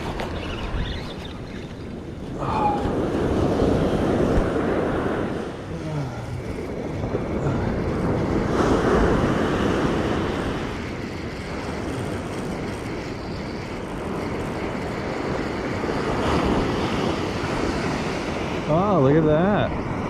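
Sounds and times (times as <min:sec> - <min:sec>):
surf washing: 0:00.0 - 0:20.0
wind rumbling on microphone: 0:00.0 - 0:20.0.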